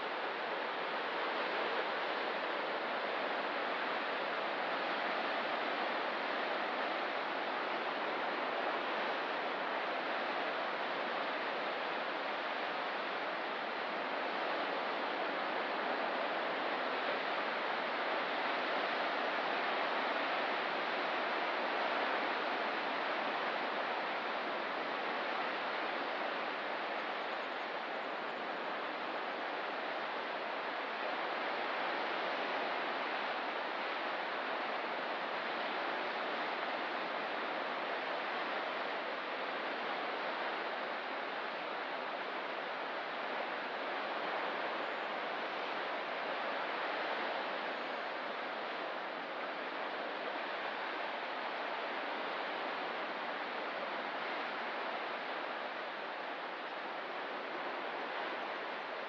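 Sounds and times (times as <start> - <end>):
distant ocean surf: 0.0 - 59.0.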